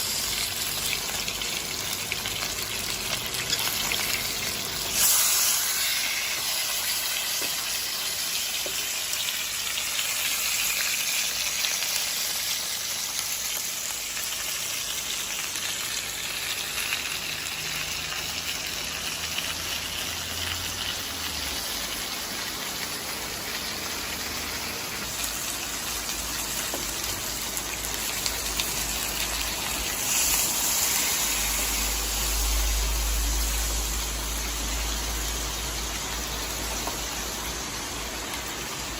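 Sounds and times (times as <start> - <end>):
steak sizzling in a frying pan: 0.0 - 38.9.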